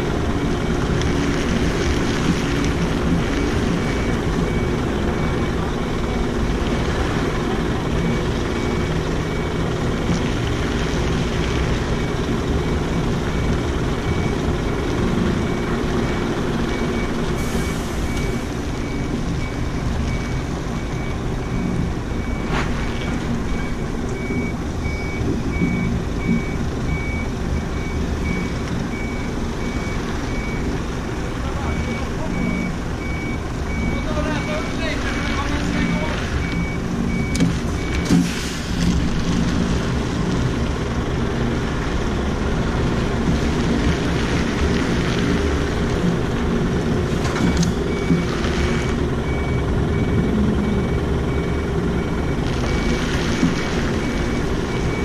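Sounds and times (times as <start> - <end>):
truck engine running: 0.0 - 55.0
reversing alarm beeping: 1.6 - 10.7, 11.8 - 38.2, 46.0 - 55.0.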